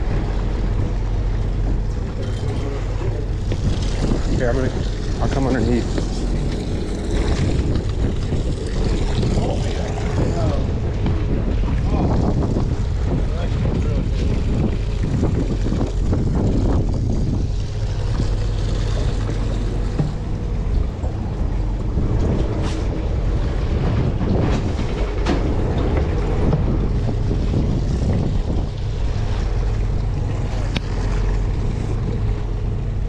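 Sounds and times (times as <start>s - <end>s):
boat engine humming: 0.0s - 33.0s
wind buffeting microphone: 0.0s - 33.0s.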